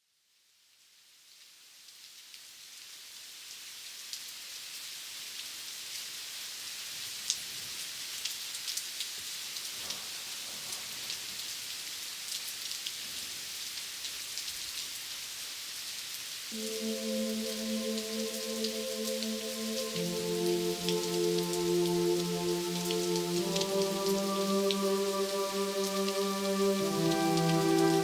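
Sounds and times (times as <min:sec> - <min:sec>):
steady rain falling: 0:00.5 - 0:28.0.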